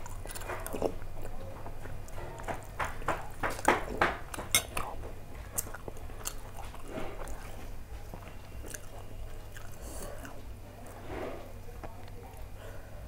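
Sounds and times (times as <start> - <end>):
person chewing food: 0.0 - 12.8
steady low hum: 0.0 - 13.0.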